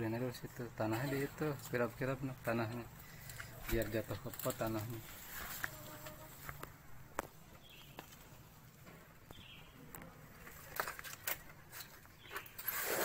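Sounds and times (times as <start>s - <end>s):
rustling leaves and stems: 0.9s - 13.0s.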